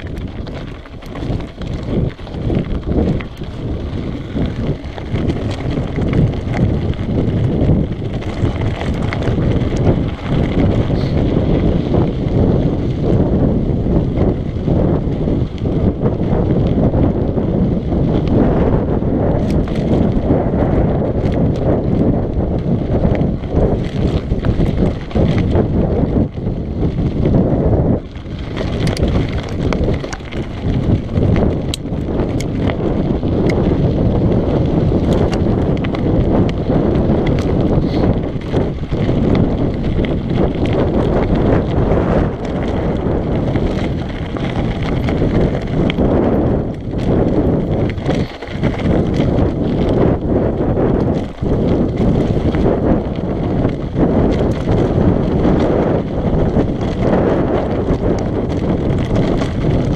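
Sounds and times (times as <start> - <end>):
tyres crunching on gravel: 0.0 - 13.4, 21.0 - 59.9
bike rattling over rocks: 0.0 - 59.9
wind buffeting microphone: 0.0 - 59.9.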